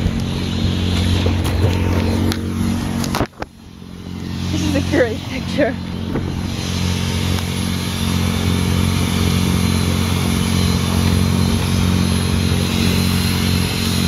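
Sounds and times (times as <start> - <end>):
motorboat engine droning: 0.0 - 14.0.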